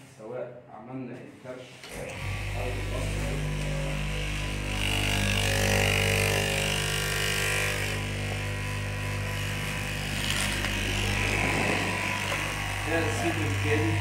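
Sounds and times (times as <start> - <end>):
blade buzz cutting fabric: 1.8 - 14.0
cutting machine motor hum: 1.9 - 14.0.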